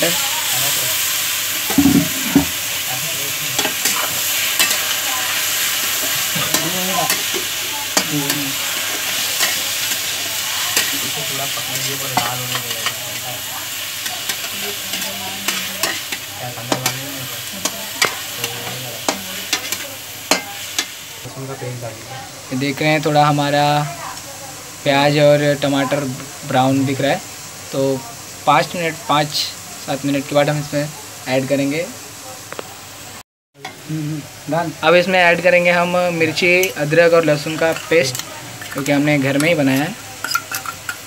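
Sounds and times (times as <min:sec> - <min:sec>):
onions sizzling in oil: 0:00.0 - 0:41.0.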